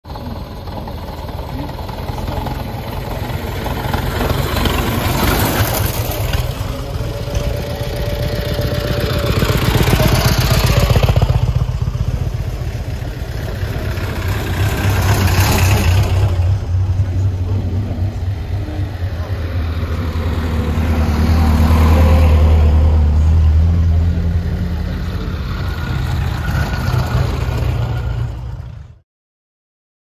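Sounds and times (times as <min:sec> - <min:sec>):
sports car engines passing: 0:01.7 - 0:29.0.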